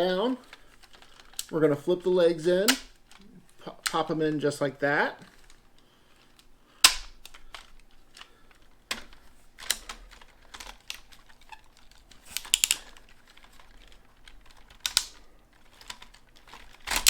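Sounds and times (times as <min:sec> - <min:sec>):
plastic toy parts clicking and snapping: 0:00.4 - 0:01.6, 0:02.6 - 0:04.2, 0:05.3 - 0:17.0.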